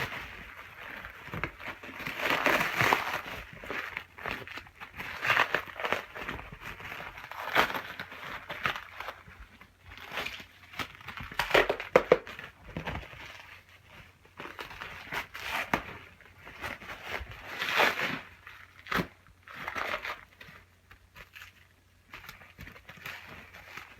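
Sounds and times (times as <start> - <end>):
packaging crinkling and tearing: 0.0 - 23.9.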